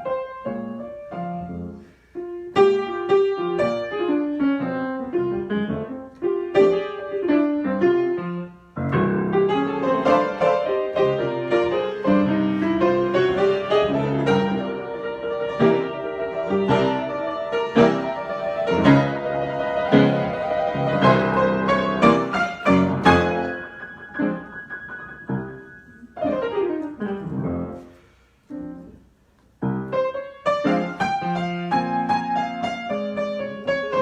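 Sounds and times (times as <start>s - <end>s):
solo piano improvising: 0.0s - 34.0s.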